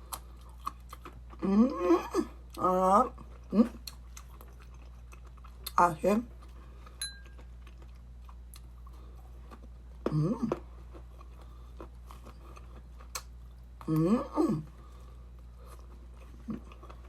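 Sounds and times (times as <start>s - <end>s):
close chewing with mouth clicks: 0.0s - 1.5s, 2.2s - 14.1s, 14.7s - 17.0s
faint low hum: 0.0s - 17.0s.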